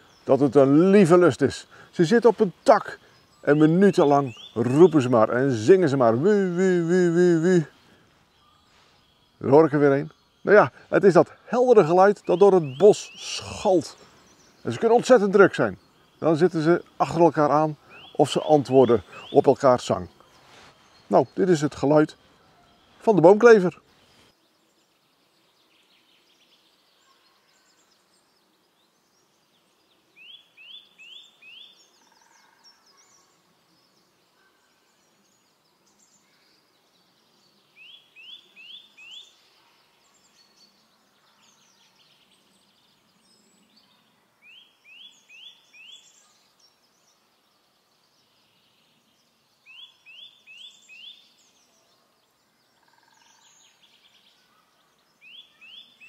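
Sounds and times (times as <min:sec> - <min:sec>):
nuthatch singing: 0:00.0 - 0:24.3, 0:25.4 - 0:56.0
faint birds chirping: 0:00.0 - 0:56.0.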